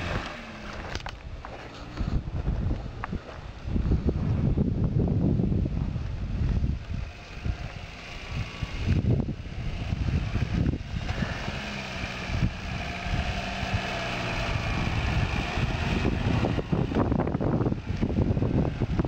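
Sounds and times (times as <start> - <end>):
car engine running at low revs: 0.0 - 19.0
wind buffeting microphone: 0.0 - 19.0.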